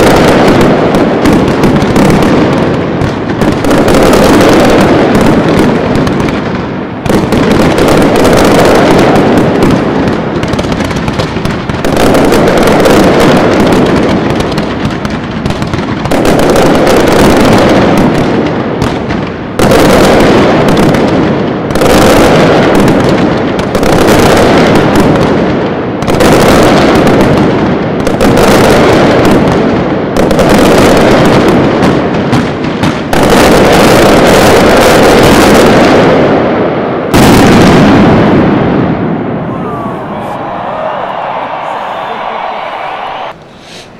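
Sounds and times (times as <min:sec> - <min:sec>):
fireworks bangs: 0:00.0 - 0:43.9.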